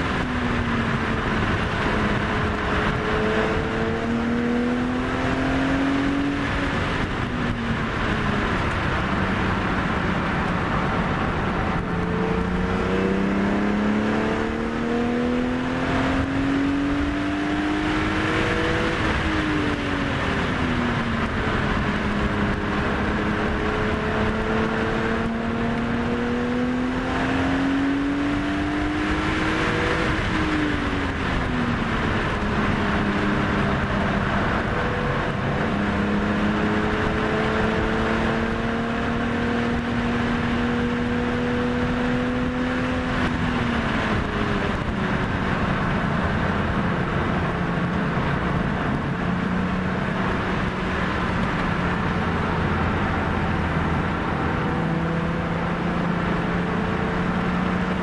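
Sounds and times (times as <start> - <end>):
car engine revving in cabin: 0.0 - 58.0
road and wind noise: 0.0 - 58.0.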